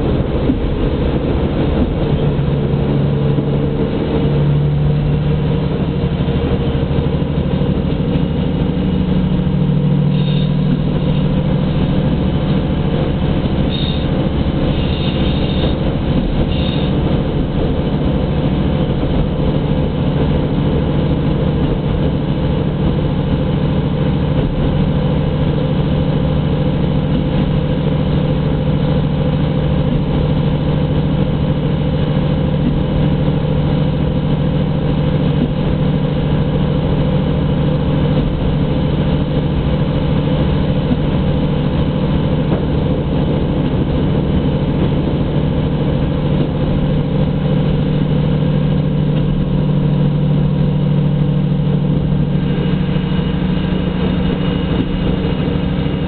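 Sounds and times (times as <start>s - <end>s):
low engine hum: 0.0s - 56.0s
train rumble: 0.0s - 56.0s.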